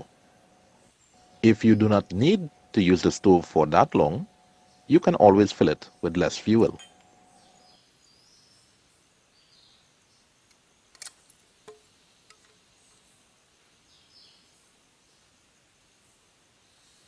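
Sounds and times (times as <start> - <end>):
faint forest ambience: 0.0 - 17.0.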